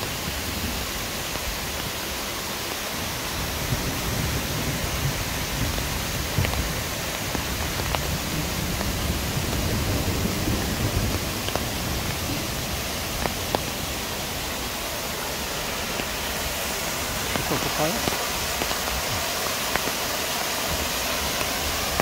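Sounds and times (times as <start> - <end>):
waterfall and stream rushing: 0.0 - 22.0.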